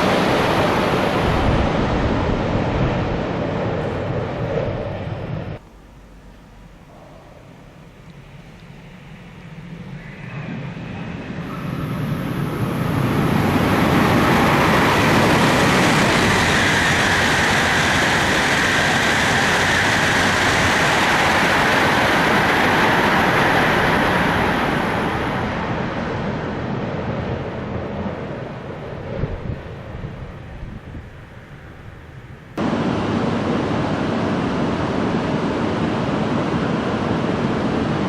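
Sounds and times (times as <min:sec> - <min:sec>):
high-speed train passing: 0:00.0 - 0:38.0.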